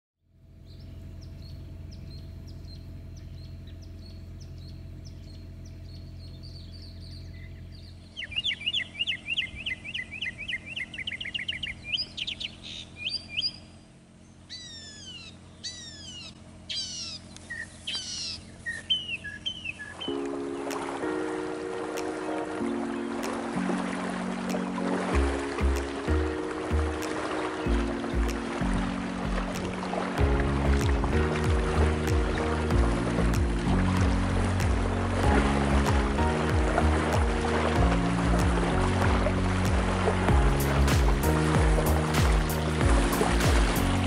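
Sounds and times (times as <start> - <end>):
low steady rumble: 0.2 - 20.4, 22.5 - 44.0
birds singing: 0.4 - 44.0.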